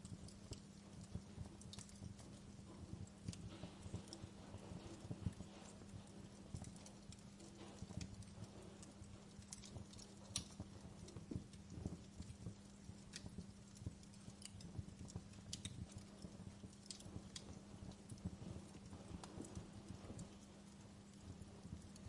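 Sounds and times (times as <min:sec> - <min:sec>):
faint steady hum: 0:00.0 - 0:22.0
wood fire crackling: 0:00.0 - 0:22.0.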